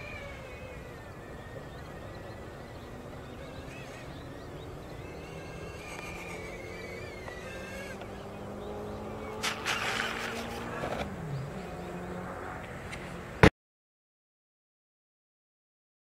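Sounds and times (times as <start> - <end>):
electric fans whining: 0.0 - 13.4.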